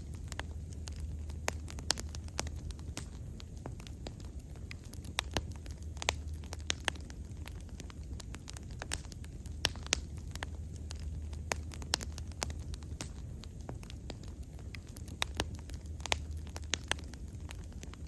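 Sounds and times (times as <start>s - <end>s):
burning wood crackling and popping: 0.0s - 18.0s
steady low rumble: 0.0s - 18.0s.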